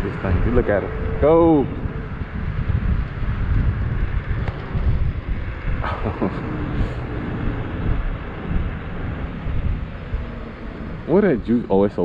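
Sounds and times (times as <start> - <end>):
wind buffeting microphone: 0.0 - 12.0
electric bike falling whine: 0.9 - 11.0.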